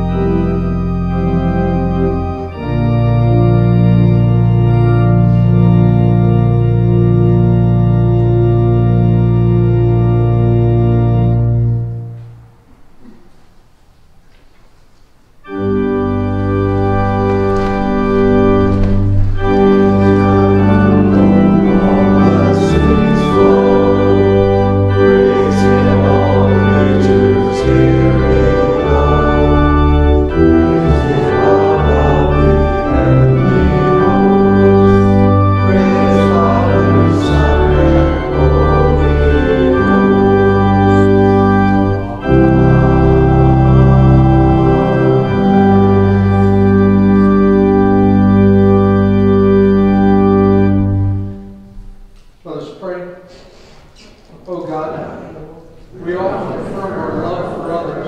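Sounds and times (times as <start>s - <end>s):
church organ chords: 0.0s - 14.3s, 15.2s - 53.2s, 54.7s - 58.0s.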